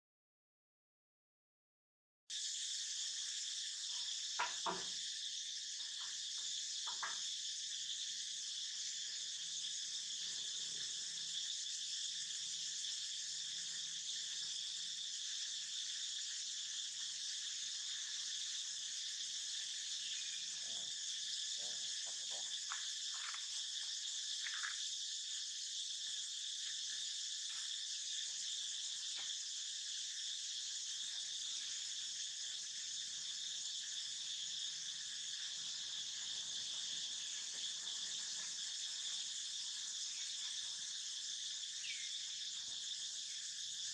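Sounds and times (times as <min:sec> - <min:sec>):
high-pitched insect chorus: 0:02.3 - 0:43.9.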